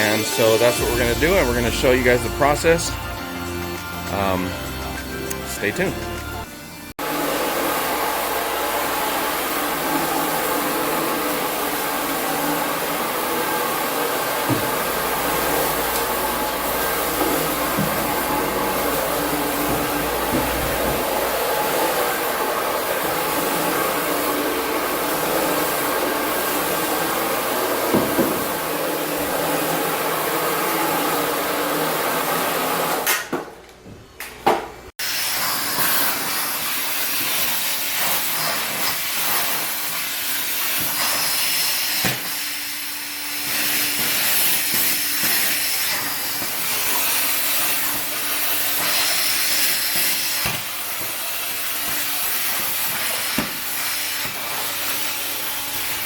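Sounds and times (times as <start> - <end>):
cleaning machine vacuum and spray hissing: 0.0 - 2.8, 6.6 - 33.0, 35.0 - 56.0.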